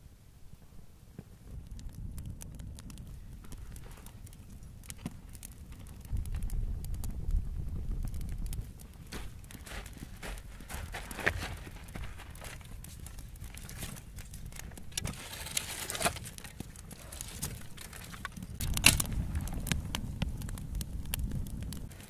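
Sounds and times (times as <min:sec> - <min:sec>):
wood fire crackling: 0:00.0 - 0:22.0
dry twigs crackling and snapping: 0:01.5 - 0:22.0
gravel crunching: 0:03.0 - 0:22.0.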